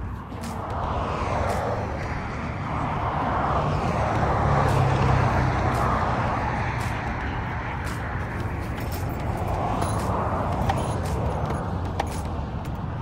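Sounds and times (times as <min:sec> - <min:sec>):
motor vehicle rumble and hiss: 0:00.0 - 0:13.0.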